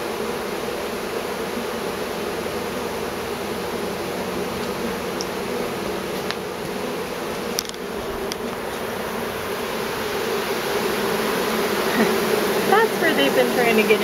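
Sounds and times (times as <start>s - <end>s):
honeybee swarm buzzing: 0.0s - 14.0s.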